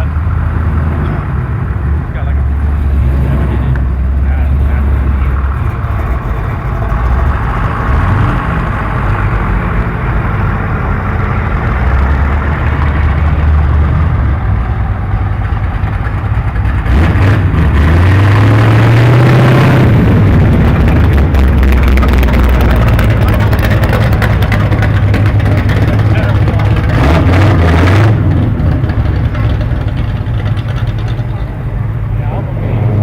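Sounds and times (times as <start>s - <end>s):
car engine accelerating: 0.0s - 33.0s
car engines running: 0.0s - 33.0s.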